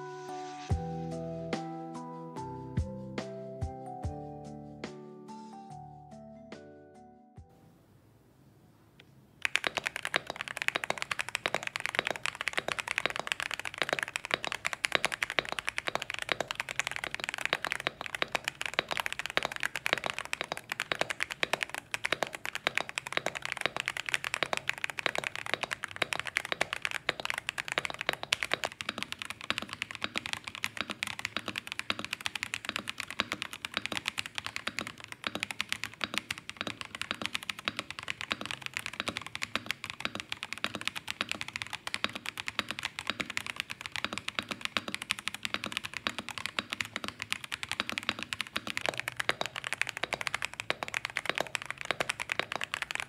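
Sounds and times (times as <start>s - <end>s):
mechanical keyboard typing: 9.4s - 53.0s.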